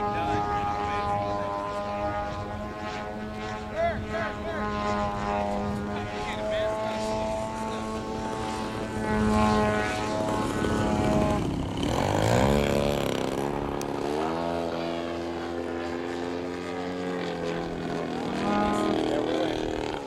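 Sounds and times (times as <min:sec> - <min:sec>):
model airplane engine and propeller: 0:00.0 - 0:20.0.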